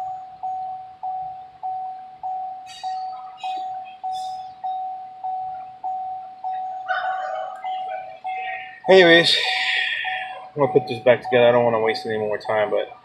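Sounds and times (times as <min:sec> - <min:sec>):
electronic warning ding: 0:00.0 - 0:13.0.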